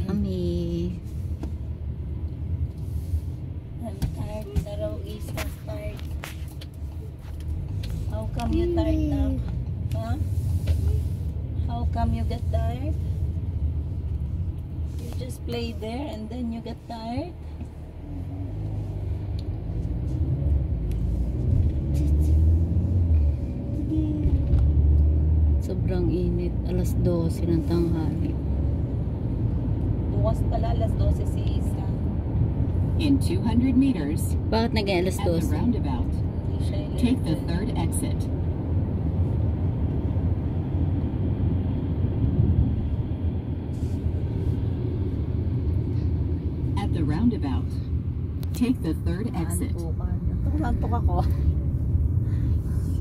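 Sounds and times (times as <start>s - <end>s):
car interior road rumble: 0.0s - 53.0s.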